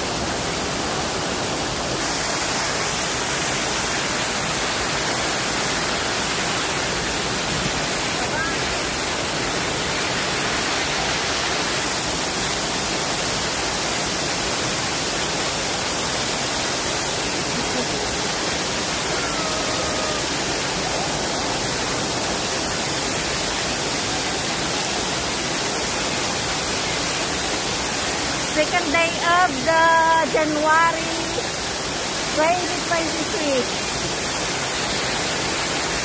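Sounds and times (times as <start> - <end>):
fountain water splashing: 0.0 - 36.0.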